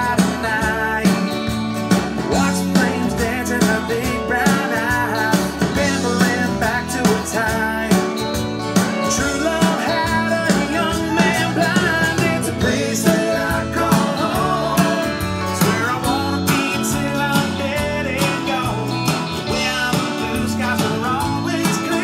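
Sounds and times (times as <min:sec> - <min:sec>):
country-rock song with singing: 0:00.0 - 0:22.0.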